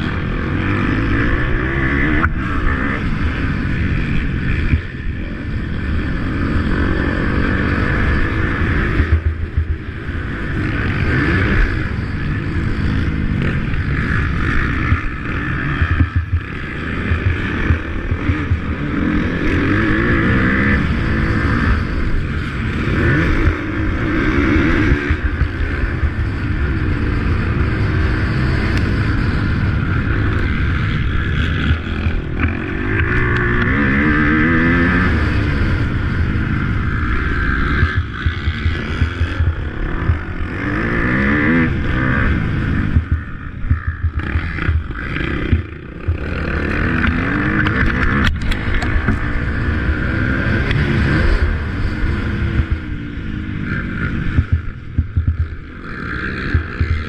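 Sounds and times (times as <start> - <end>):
motocross bikes revving: 0.0 - 57.0.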